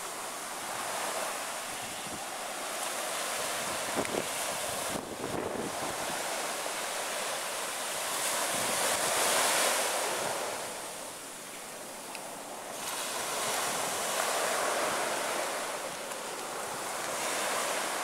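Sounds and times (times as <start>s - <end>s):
waves breaking on sandy beach: 0.0s - 18.0s.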